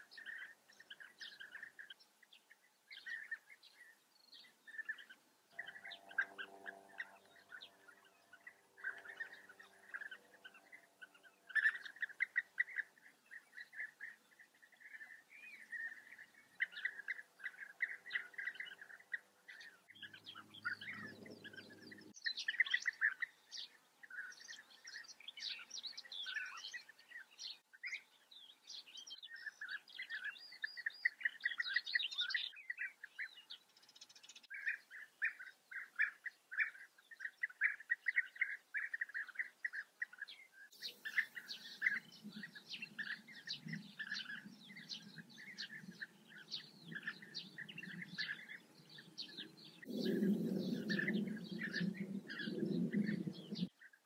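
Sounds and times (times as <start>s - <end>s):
birds calling in a colony: 0.0s - 28.1s, 28.7s - 54.0s.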